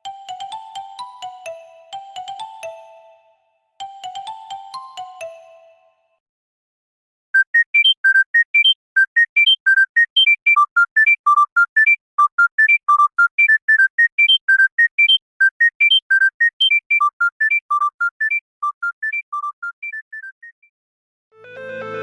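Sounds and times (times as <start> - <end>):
phone ringtone beeping melody: 0.0 - 5.9, 7.4 - 20.6.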